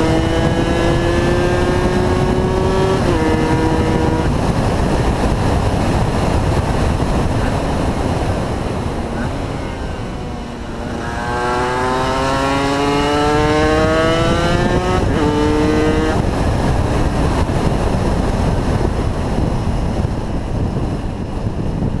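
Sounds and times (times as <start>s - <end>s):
two-stroke motorcycle engine revving: 0.0s - 19.5s
wind rush: 0.0s - 22.0s.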